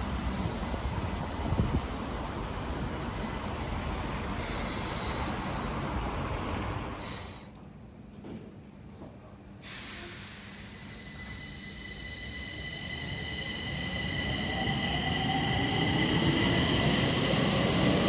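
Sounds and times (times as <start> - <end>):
metro train rumble: 0.0 - 7.5, 9.6 - 18.0.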